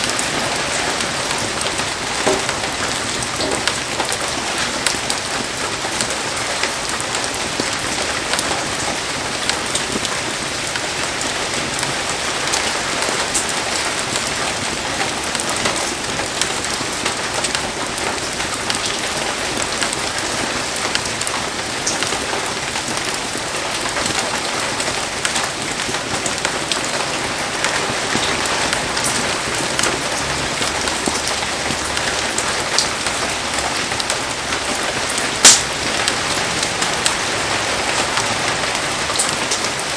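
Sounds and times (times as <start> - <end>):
heavy rain: 0.0 - 39.9
raindrops ticking on surfaces: 0.0 - 39.9.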